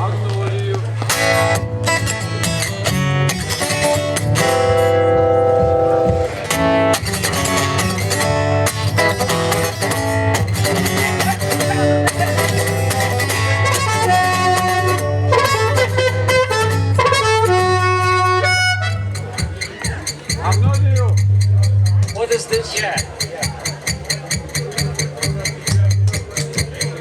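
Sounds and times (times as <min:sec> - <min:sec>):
acoustic guitar plucking: 0:00.9 - 0:27.0.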